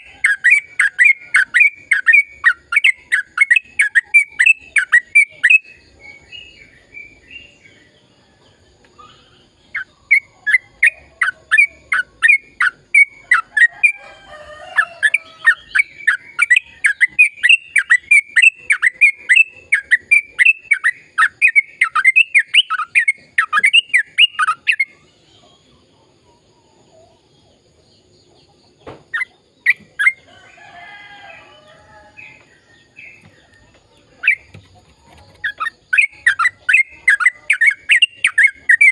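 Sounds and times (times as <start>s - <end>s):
soft bird chatter: 0.0s - 38.9s.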